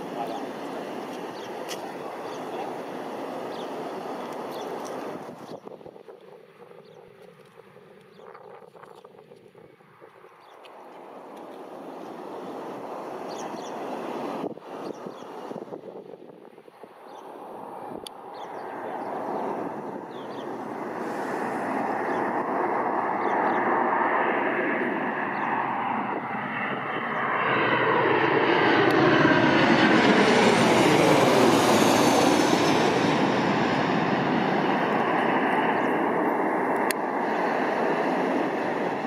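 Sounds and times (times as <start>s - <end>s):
jet airliner passing overhead: 0.0s - 39.0s.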